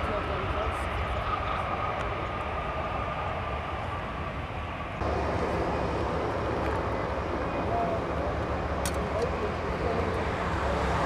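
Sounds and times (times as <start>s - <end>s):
deep jet rumble of airliner: 0.0s - 11.0s
jet engines roaring with whine: 0.0s - 11.0s.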